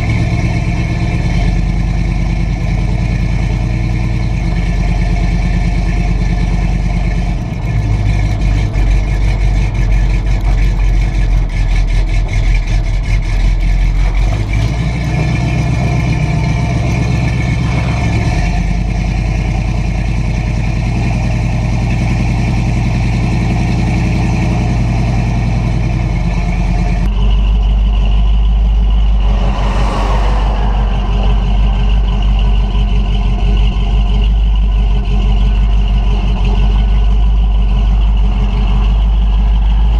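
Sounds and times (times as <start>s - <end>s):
truck exhaust rumbling: 0.0s - 39.9s
tyre and road noise: 0.0s - 39.9s.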